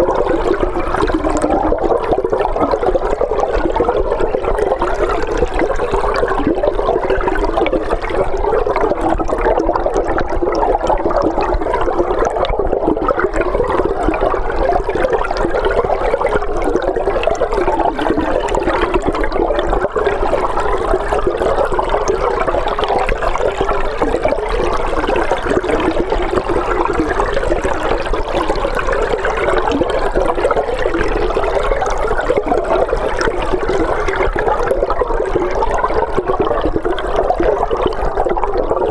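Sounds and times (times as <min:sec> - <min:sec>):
underwater rushing river water: 0:00.0 - 0:38.9.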